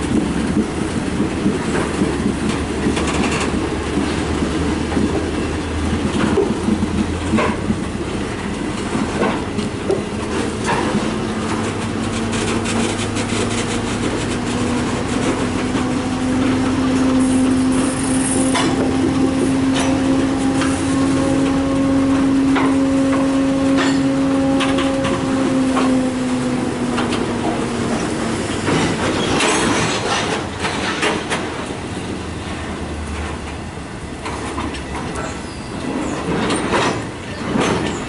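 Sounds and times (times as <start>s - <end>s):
train wheels rumbling and knocking: 0.0s - 38.0s.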